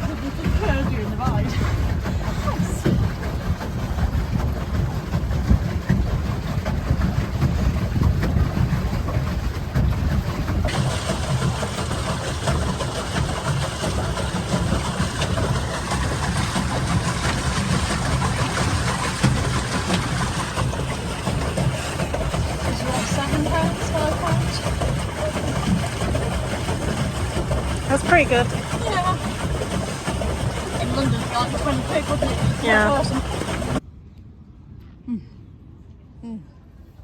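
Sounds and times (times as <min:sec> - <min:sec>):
vehicle engine rumble: 0:00.0 - 0:36.8.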